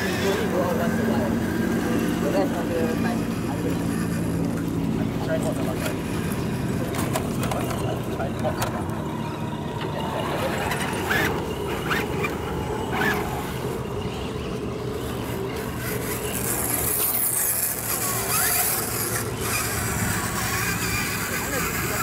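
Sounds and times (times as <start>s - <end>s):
small electric motors and gears humming: 0.0s - 22.0s.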